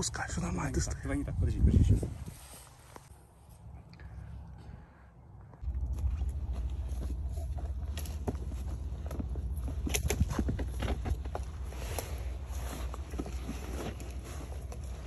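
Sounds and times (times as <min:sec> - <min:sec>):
steady low rumble: 0:00.0 - 0:15.0
rustling in vegetation: 0:01.5 - 0:04.6, 0:05.6 - 0:15.0.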